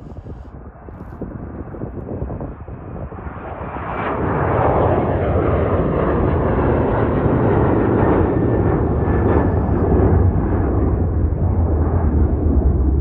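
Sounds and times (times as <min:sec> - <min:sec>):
jet engines roaring: 0:01.4 - 0:13.0.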